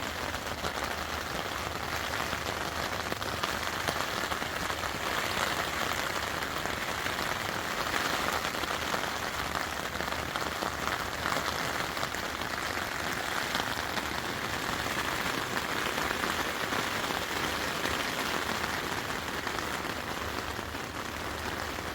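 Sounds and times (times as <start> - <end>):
steady rain falling: 0.0 - 21.9.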